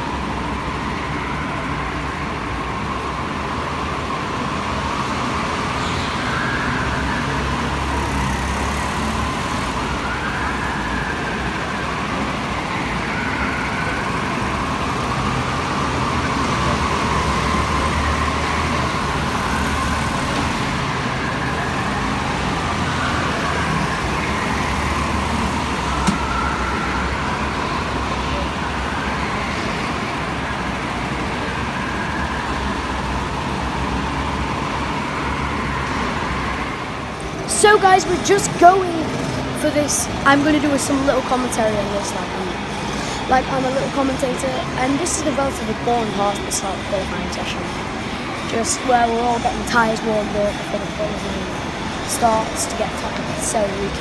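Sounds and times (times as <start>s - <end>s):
go-karts engines droning: 0.0s - 54.0s.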